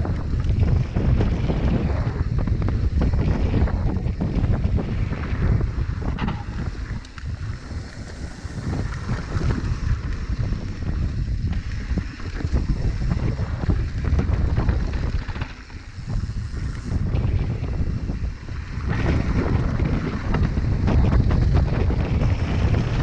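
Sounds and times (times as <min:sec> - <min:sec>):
mountain bike rolling on dirt: 0:00.0 - 0:23.0
wind buffeting microphone: 0:00.0 - 0:23.0.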